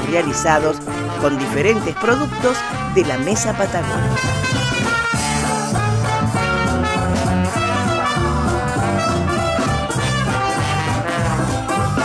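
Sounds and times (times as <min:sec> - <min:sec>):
bass line: 0:00.0 - 0:12.0
jazz band playing swing: 0:00.0 - 0:12.0
trombone: 0:00.0 - 0:12.0
trumpet: 0:00.0 - 0:12.0.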